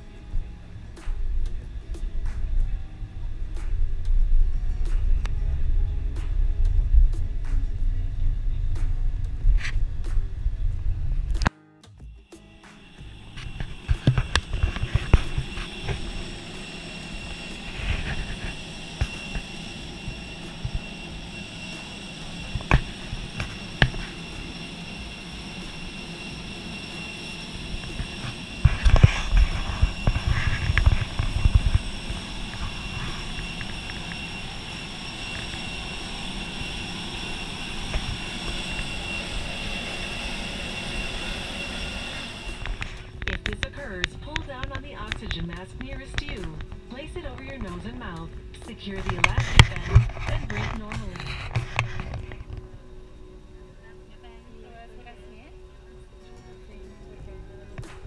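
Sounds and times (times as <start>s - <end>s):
jet airliner whine and rumble: 0.0s - 11.5s, 12.3s - 58.0s.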